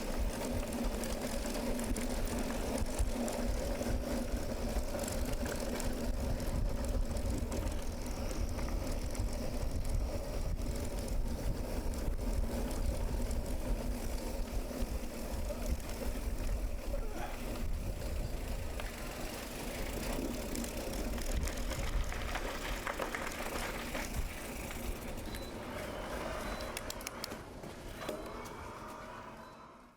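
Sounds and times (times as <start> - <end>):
bicycle clicks: 0.0 - 28.7
bicycle tyre noise: 0.0 - 29.9.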